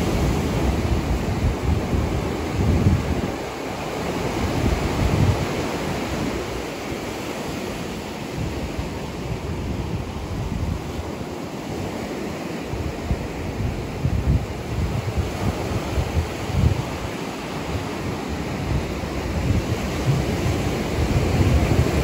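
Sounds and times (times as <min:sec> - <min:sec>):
ocean surf rushing: 0:00.0 - 0:22.0
wind gusts on microphone: 0:00.0 - 0:22.0.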